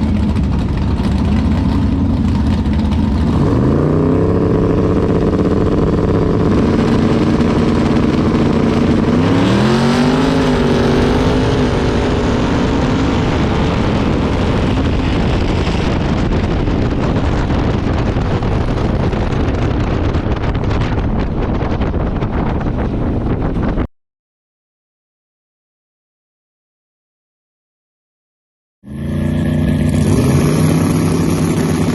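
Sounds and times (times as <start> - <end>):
race car engine at full throttle: 0.0 - 23.9, 28.8 - 31.9
wind and road noise: 0.0 - 23.9, 28.8 - 31.9.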